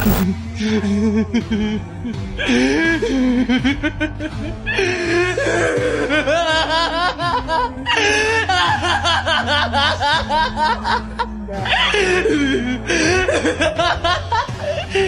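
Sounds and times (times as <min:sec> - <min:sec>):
background music with low bass: 0:00.0 - 0:15.0
man laughing maniacally: 0:02.7 - 0:15.0.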